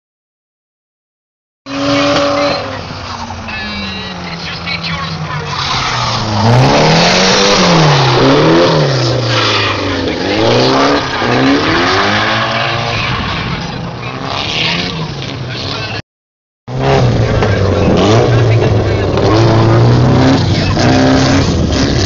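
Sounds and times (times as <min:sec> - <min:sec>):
car engine revving: 0:01.7 - 0:16.0, 0:16.7 - 0:22.0.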